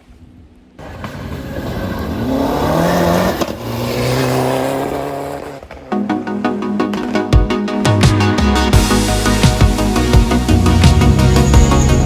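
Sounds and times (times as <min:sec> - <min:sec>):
rally car engine accelerating: 0:00.8 - 0:07.3, 0:08.8 - 0:12.0.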